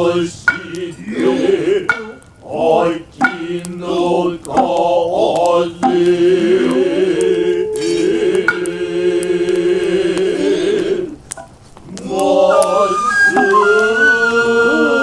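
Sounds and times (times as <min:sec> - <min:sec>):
low voice chanting: 0:00.0 - 0:11.2, 0:11.8 - 0:15.0
sharp clicks: 0:00.2 - 0:14.6.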